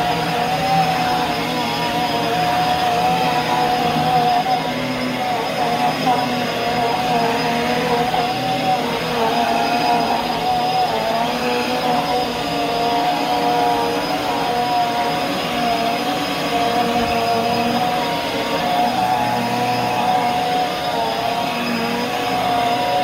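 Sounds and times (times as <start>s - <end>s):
vacuum cleaner running on carpet: 0.0s - 23.0s.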